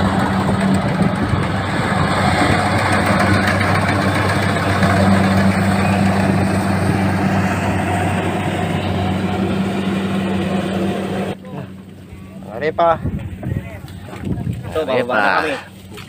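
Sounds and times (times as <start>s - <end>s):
combine harvester engine humming: 0.0s - 16.0s.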